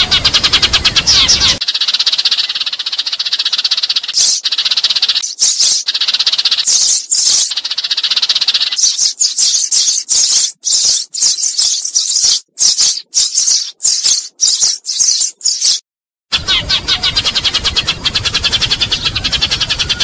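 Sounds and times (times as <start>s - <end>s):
sparrows chirping and chattering: 0.0s - 15.8s, 16.4s - 20.0s.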